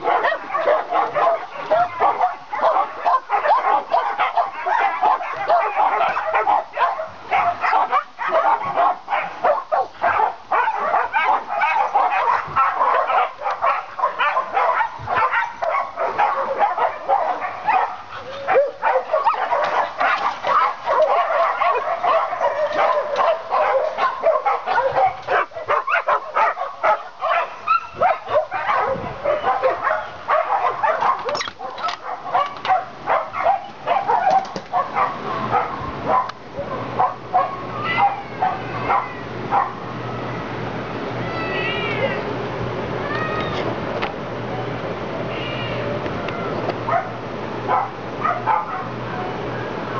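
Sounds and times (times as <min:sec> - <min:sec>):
many dogs barking and yipping: 0:00.0 - 0:40.6, 0:46.7 - 0:49.9.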